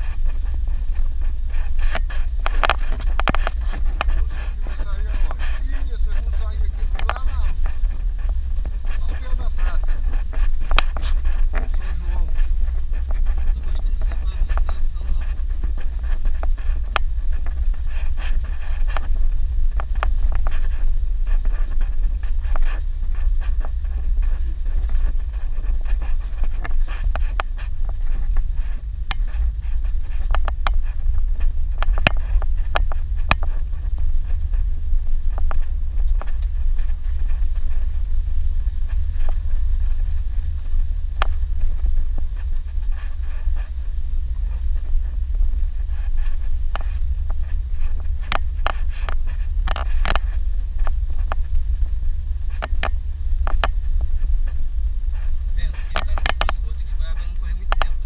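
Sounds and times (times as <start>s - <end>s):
low rumble of engine and road: 0.0s - 58.0s.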